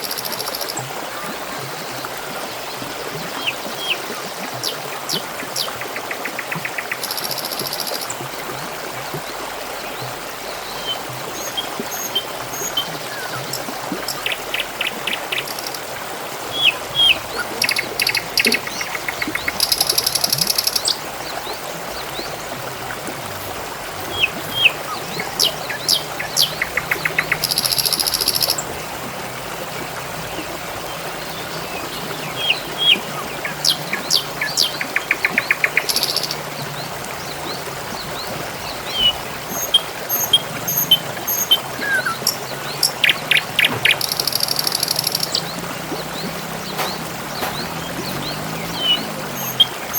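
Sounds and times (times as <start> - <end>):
water trickling: 0.0 - 49.9
songbirds chirping and trilling: 9.2 - 49.9.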